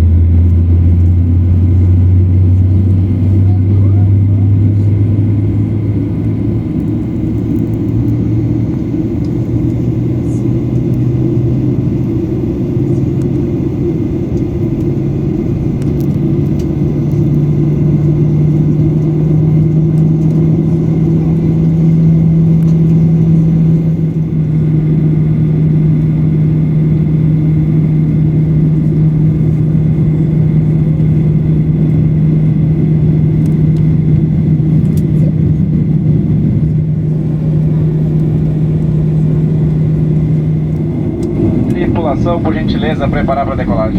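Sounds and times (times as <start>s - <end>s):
jet engines rumbling: 0.0s - 43.9s
low hum rising in pitch: 0.0s - 43.9s.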